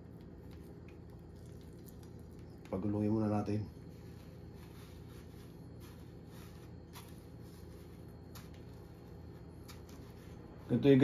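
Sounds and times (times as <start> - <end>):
meatball rolled in breadcrumbs: 0.0 - 11.0.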